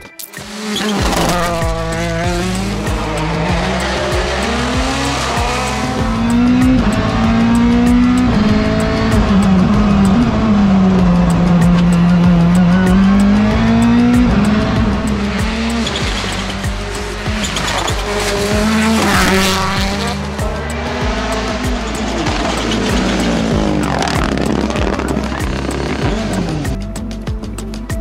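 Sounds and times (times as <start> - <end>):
engine crackles: 0.0 - 28.0
rally car engine revving: 0.4 - 27.8.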